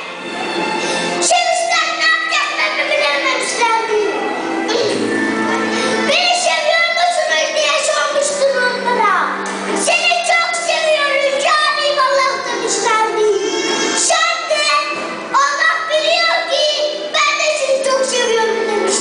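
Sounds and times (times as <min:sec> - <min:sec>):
boy reciting through loudspeaker: 0:01.2 - 0:05.0, 0:06.0 - 0:19.0.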